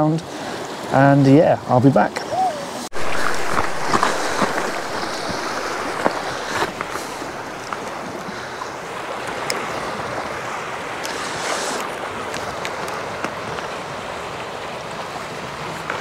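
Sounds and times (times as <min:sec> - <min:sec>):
wind on microphone: 0:02.2 - 0:16.0
small waves washing on rocks: 0:02.9 - 0:16.0.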